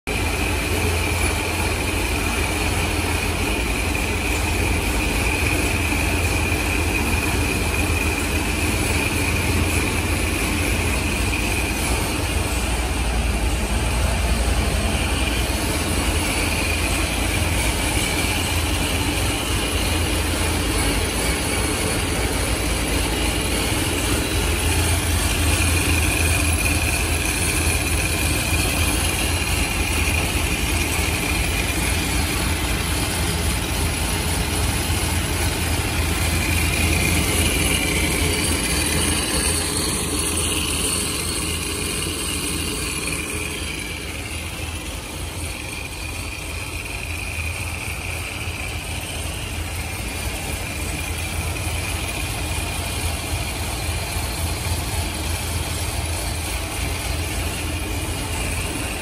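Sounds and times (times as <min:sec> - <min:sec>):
car engine idling: 0:00.0 - 0:59.0
supercharger whine: 0:00.0 - 0:59.0.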